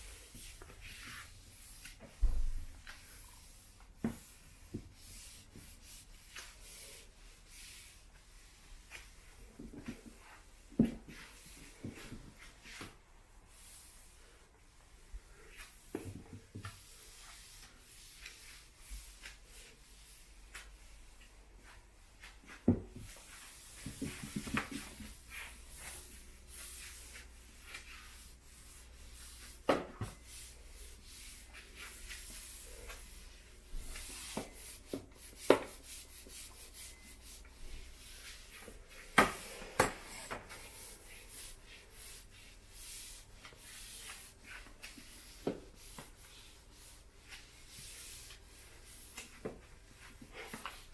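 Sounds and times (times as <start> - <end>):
mop sheet scraping floor: 0.0 - 50.9.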